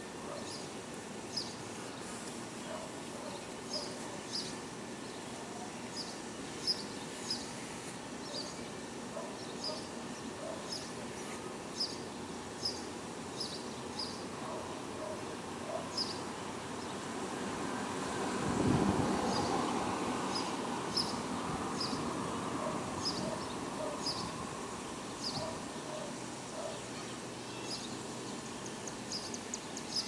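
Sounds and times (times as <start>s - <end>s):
outdoor background noise: 0.0s - 30.0s.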